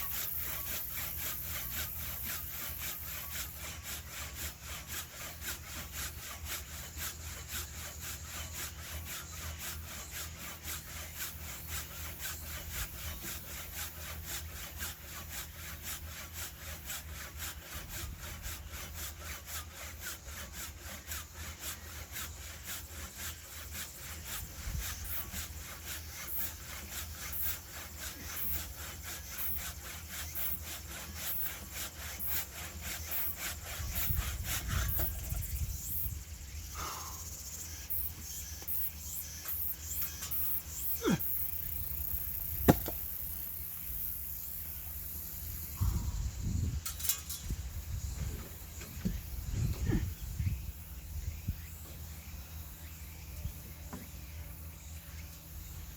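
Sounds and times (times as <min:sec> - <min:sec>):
hand saw cutting wood: 0:00.0 - 0:55.9.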